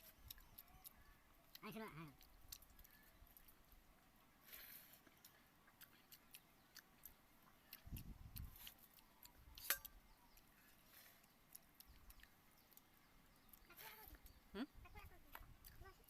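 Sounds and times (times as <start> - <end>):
chewing clicks and smacks: 0.1 - 3.9, 5.0 - 14.4, 15.3 - 15.9.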